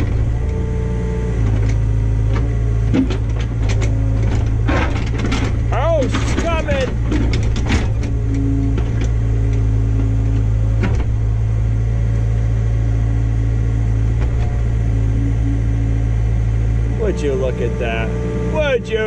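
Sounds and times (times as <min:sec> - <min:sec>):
excavator engine under load: 0:00.0 - 0:19.0.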